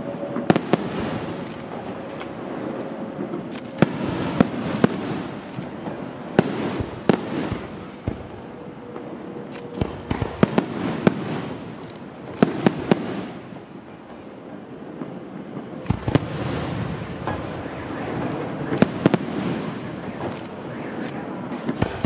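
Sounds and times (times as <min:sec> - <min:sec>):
fireworks bangs: 0:00.0 - 0:14.3, 0:14.9 - 0:22.0
crackle of bursting fireworks: 0:00.0 - 0:22.0.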